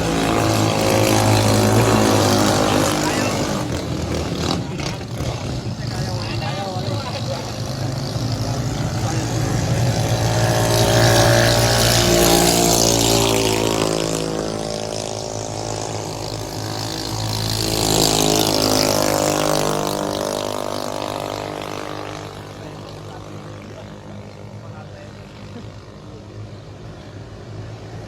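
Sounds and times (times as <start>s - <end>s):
small engine revving: 0.0s - 28.0s.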